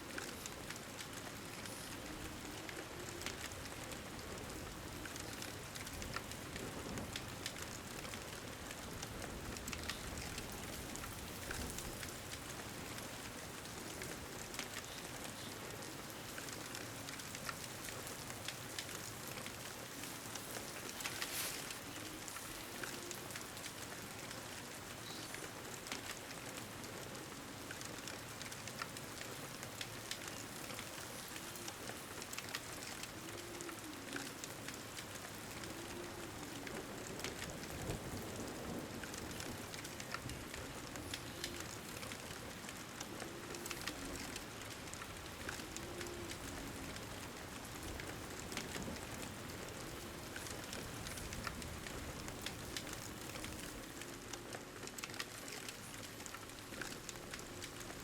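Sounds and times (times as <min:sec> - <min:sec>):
pouring rain: 0:00.0 - 0:58.0
wood fire crackling: 0:00.0 - 0:58.0.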